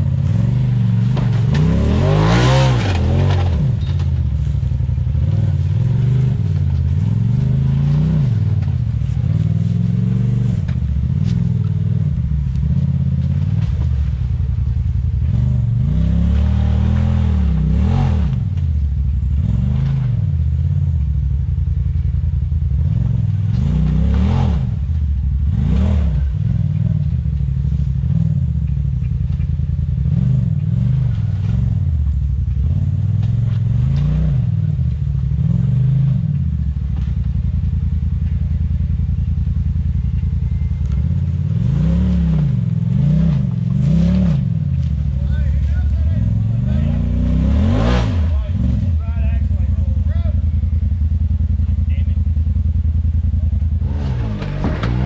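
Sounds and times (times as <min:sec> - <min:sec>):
utility vehicle engine revving: 0:00.0 - 0:55.0.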